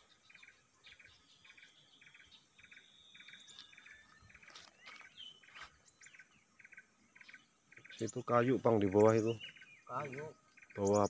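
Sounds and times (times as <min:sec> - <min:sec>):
faint pulsed chirping: 0:00.0 - 0:11.0.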